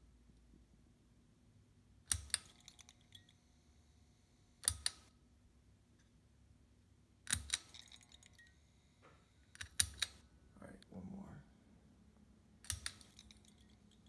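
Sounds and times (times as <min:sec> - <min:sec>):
steady low hum: 0:02.7 - 0:14.0.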